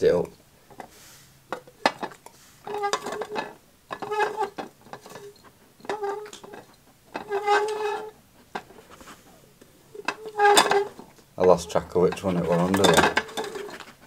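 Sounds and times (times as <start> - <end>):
cups scraping with a squeak: 1.6 - 14.0.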